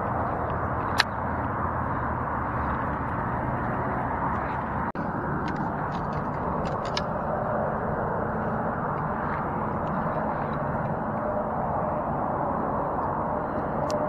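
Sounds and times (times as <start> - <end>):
distant city traffic: 0.0 - 14.0.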